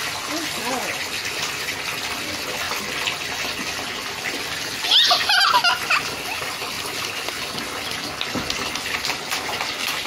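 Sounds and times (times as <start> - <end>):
water running in bathtub: 0.0 - 10.0.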